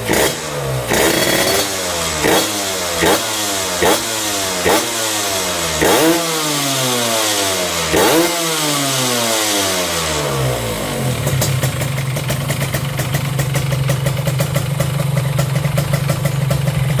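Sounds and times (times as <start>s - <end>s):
exhaust popping: 0.0s - 17.0s
motorcycle engine revving and idling: 0.0s - 17.0s.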